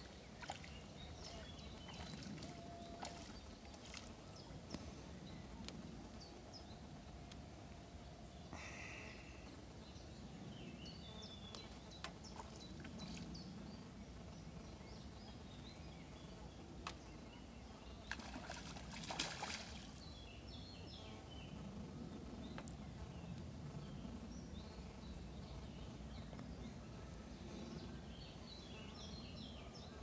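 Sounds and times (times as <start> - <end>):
small birds chirping: 0.0 - 7.4, 8.2 - 30.0.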